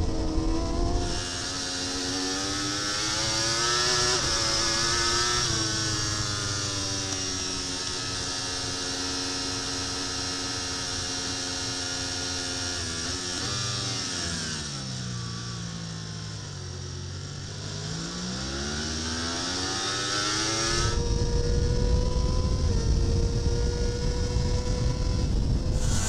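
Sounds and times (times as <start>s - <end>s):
superbike engine revving: 0.0s - 26.0s.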